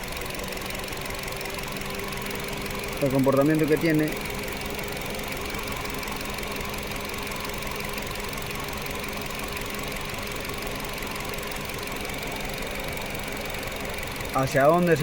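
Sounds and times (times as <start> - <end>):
misfiring car engine idling: 0.0 - 15.0.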